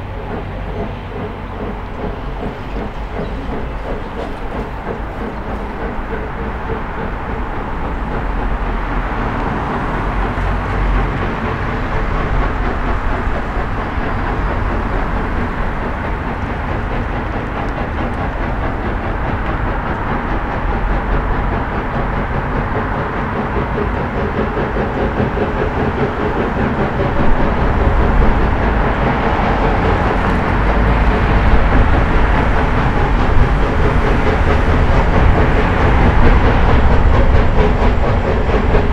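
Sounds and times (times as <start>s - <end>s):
locomotive low rumble: 0.0s - 38.9s
steam train approaching: 0.0s - 38.9s.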